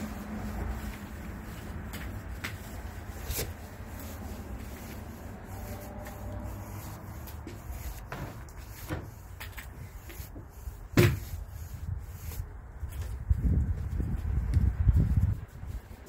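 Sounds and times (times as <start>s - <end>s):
paint roller rubbing on wooden boards: 0.0s - 16.0s.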